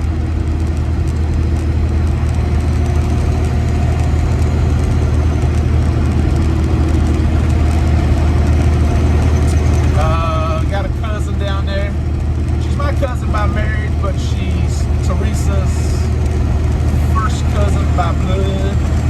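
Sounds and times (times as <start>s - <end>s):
road noise: 0.0s - 19.0s
truck diesel engine running: 0.0s - 19.0s.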